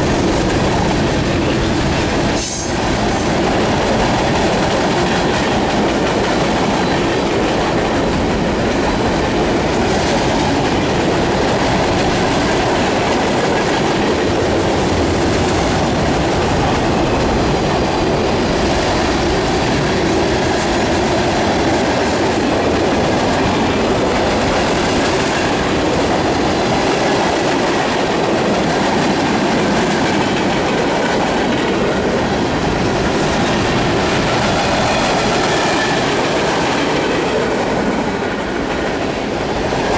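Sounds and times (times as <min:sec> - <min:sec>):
freight train cars rolling: 0:00.0 - 0:39.9
wheels clacking on rail joints: 0:00.0 - 0:39.9.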